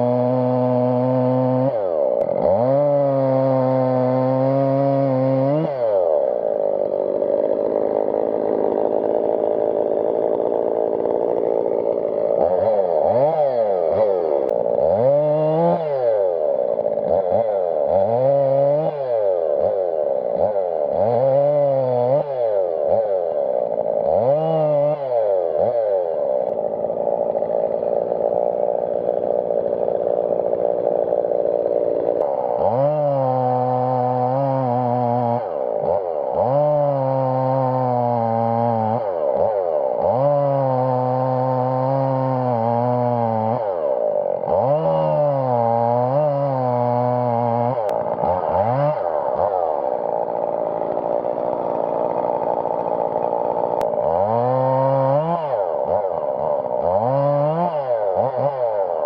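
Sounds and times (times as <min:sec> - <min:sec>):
chainsaw running: 0:00.0 - 0:59.0.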